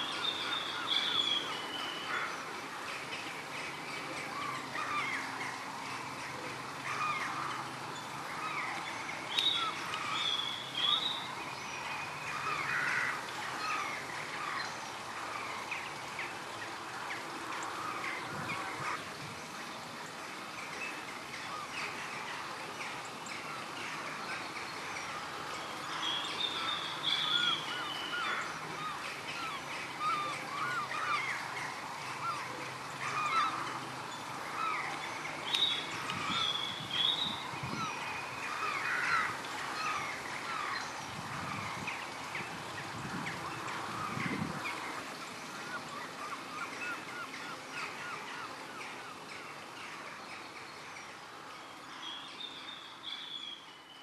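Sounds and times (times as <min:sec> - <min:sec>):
flock of birds calling: 0:00.0 - 0:53.9.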